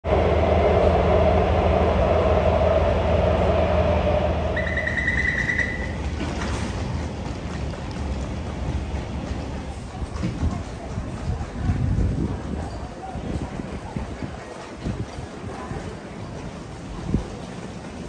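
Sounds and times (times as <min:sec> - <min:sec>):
metro train rumble and hum: 0:00.0 - 0:18.0.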